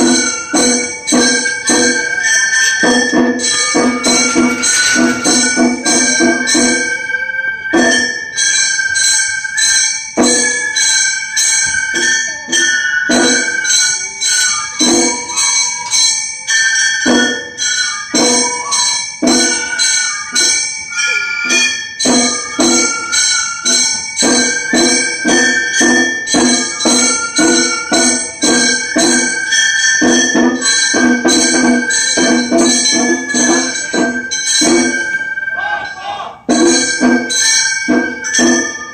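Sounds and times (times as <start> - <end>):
bamboo flute melody: 0.0 - 38.9
hand gongs clanging: 0.0 - 38.9.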